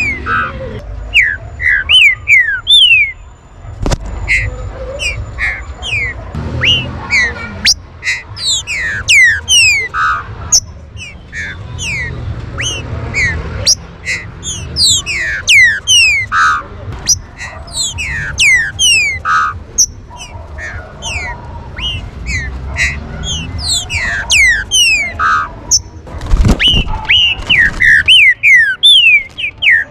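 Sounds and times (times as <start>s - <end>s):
birds whistling calls: 0.0s - 3.3s, 4.1s - 29.9s.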